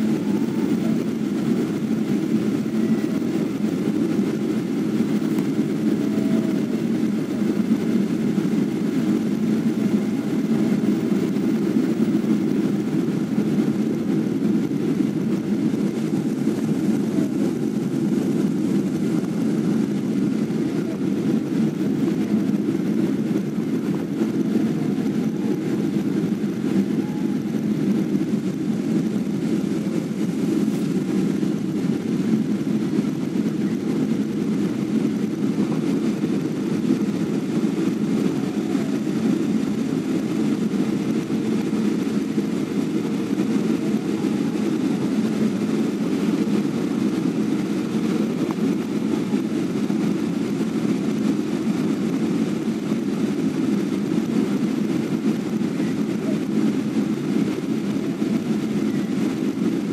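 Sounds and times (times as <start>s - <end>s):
jet airliner cabin noise: 0.0s - 59.9s.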